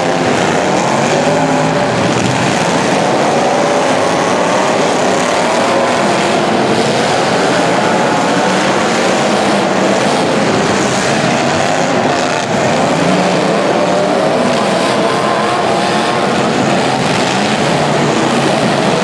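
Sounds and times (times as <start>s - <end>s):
racing engines revving: 0.0s - 19.0s.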